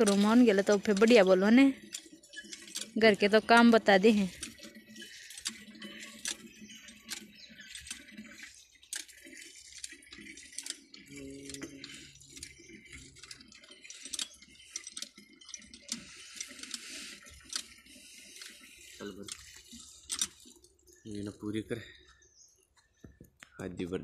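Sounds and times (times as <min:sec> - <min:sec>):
water splashing from hand pump: 0:00.0 - 0:20.6.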